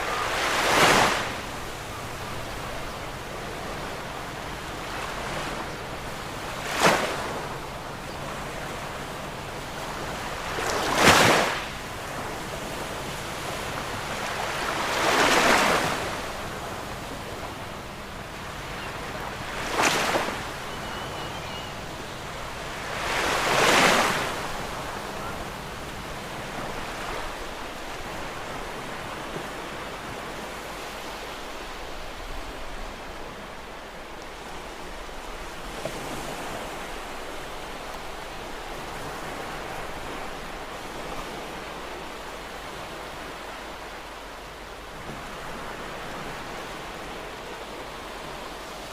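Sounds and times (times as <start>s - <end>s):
steady wash of sea: 0.0s - 48.9s
waves breaking: 0.0s - 48.9s.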